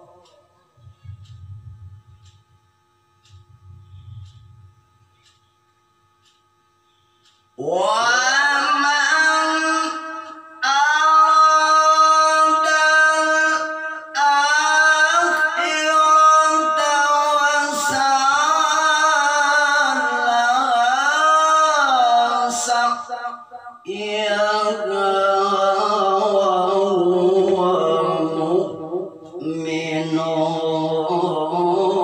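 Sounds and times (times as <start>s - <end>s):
man chanting: 0.0s - 1.6s, 7.6s - 32.0s.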